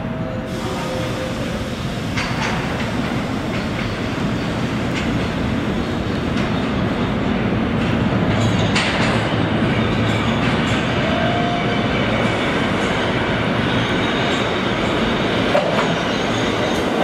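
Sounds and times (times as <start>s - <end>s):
subway train wheels rumbling on rails: 0.0s - 17.0s.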